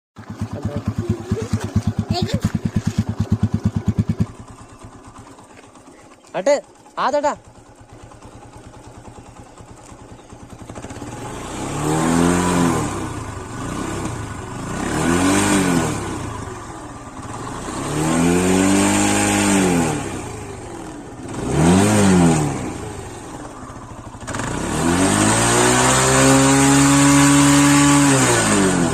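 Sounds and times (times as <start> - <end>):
motorcycle engine idling and revving: 0.2 - 28.9.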